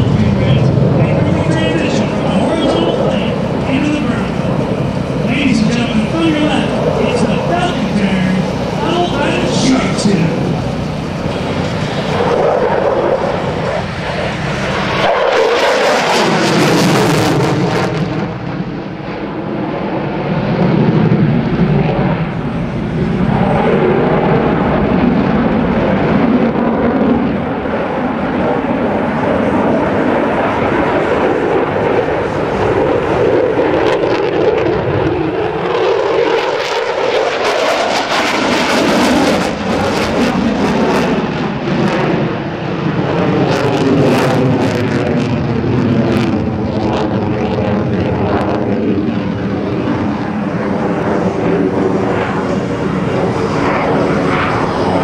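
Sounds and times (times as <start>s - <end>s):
jet flying overhead: 0.0s - 55.0s.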